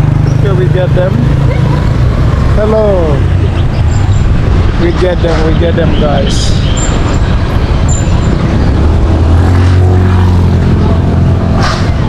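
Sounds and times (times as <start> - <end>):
street traffic: 0.0 - 12.0
vehicle engine running close by: 0.0 - 12.0.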